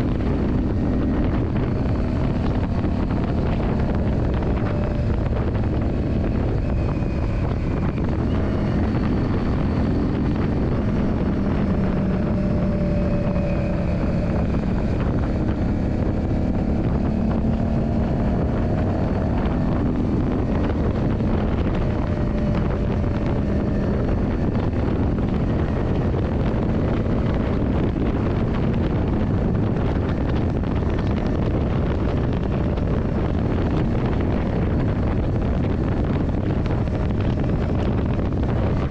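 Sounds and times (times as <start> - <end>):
motorcycle engine running: 0.0 - 38.9
wind buffeting on microphone: 0.0 - 38.9.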